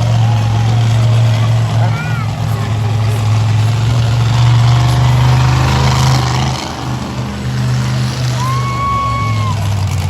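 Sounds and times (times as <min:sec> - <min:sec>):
truck engine idling deeply: 0:00.0 - 0:10.0.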